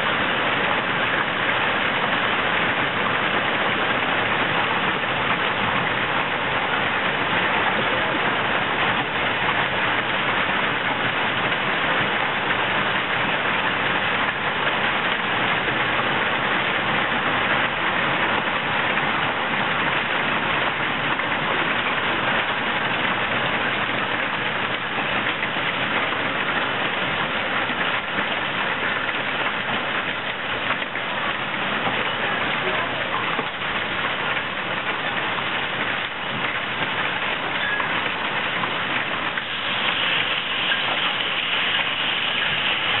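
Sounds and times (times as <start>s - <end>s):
heavy hail clattering: 0.0s - 43.0s.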